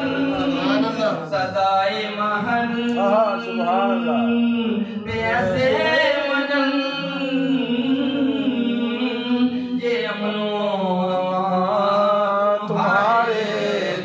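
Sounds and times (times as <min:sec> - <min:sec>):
man chanting into microphone: 0:00.0 - 0:14.0.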